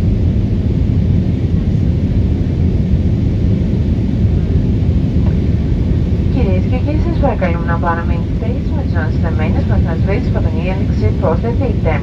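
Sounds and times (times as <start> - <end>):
engine rumble in plane cabin: 0.0 - 12.0.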